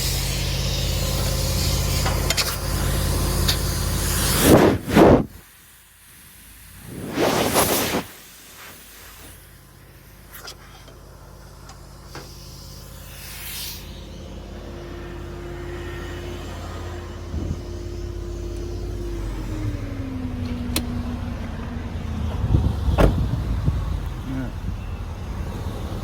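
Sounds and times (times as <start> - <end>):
truck engine running: 0.0 - 5.3, 9.4 - 26.0
air compressor running: 0.0 - 26.0.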